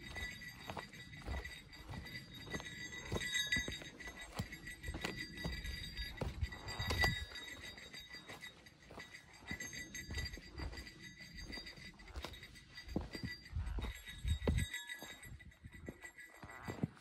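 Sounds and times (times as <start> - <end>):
small bell jingling: 0.0 - 17.0.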